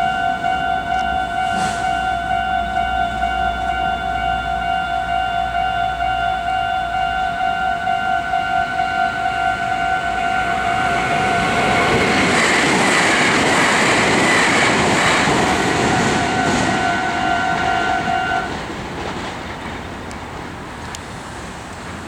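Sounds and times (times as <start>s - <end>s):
level-crossing bell ringing: 0.0s - 18.6s
train rush and wheel clatter: 0.0s - 22.0s.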